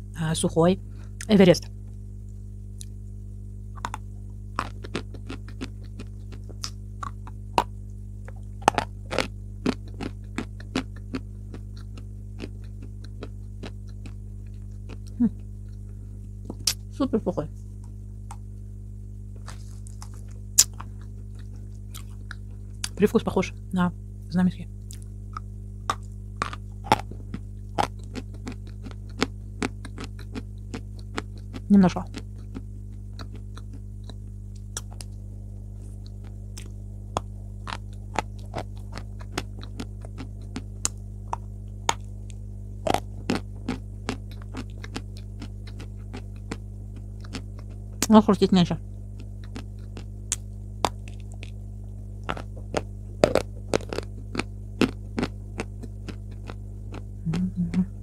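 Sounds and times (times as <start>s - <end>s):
chalk crunching while chewed: 3.7s - 16.9s, 19.3s - 23.0s, 24.8s - 48.1s, 49.1s - 57.6s.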